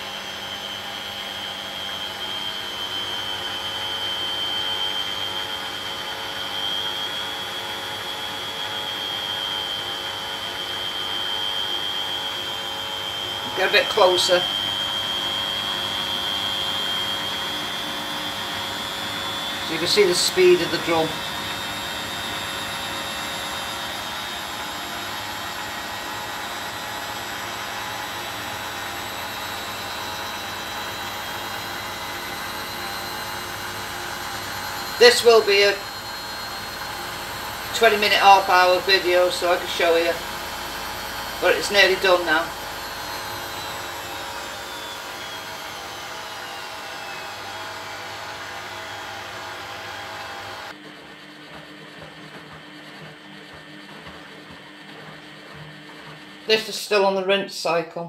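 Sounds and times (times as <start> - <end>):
faint high whine: 0.0 - 50.8
washing machine drum spinning: 0.0 - 56.6.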